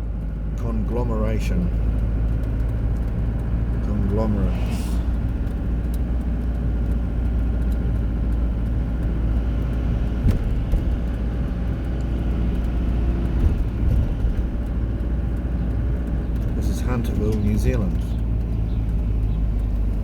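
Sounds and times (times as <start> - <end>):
car running low rumble: 0.0 - 20.0.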